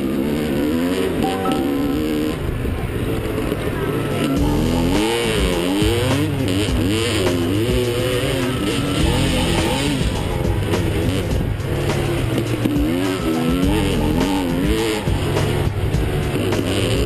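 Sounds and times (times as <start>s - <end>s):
dirt bike engine revving: 0.0s - 17.0s
wind: 0.0s - 17.0s.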